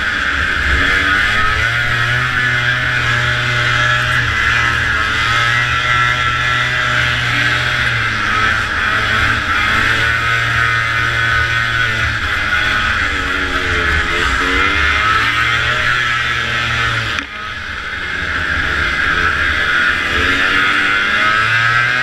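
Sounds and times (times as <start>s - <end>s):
snowmobile engine running hard: 0.0s - 22.0s
steady rushing noise: 0.0s - 22.0s.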